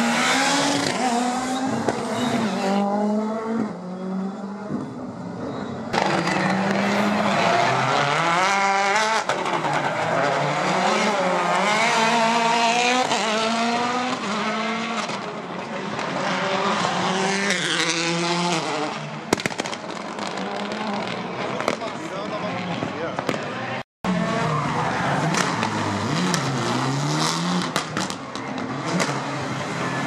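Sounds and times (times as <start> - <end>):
rally car engine revving: 0.0 - 21.8, 24.1 - 30.0.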